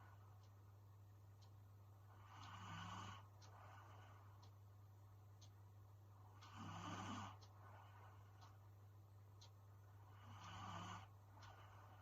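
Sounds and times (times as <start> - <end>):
faint ticks: 0.0 - 12.0
steady low hum: 0.0 - 12.0.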